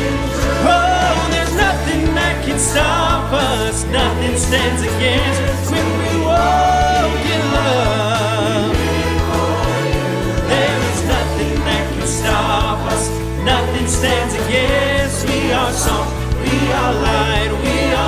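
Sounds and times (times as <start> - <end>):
choir singing worship song: 0.0 - 18.0
low bass accompaniment: 0.0 - 18.0.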